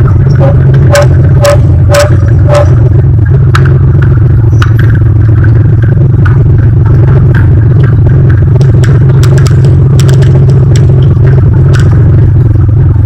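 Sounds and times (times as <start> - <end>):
aircraft piston engine droning: 0.0 - 13.0
sharp clicks and rattles: 0.0 - 13.0.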